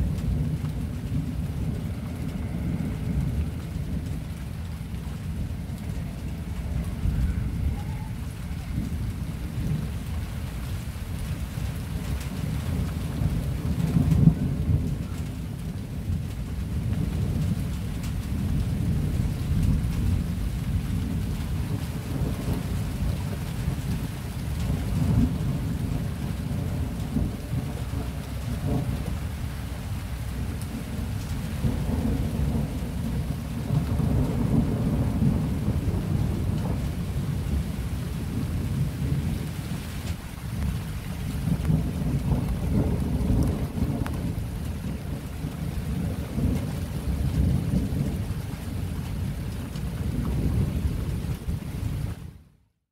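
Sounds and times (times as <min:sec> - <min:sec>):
thunder rumbling: 0:00.0 - 0:52.3.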